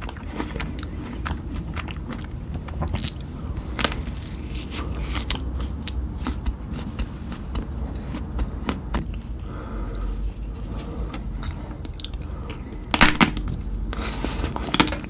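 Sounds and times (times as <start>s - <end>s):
chewing with crisp crunches: 0.0s - 15.0s.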